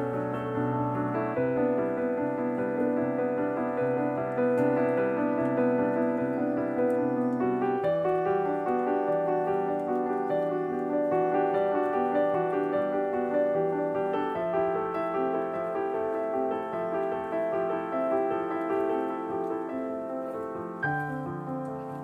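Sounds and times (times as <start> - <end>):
soft piano chords: 0.0 - 22.0.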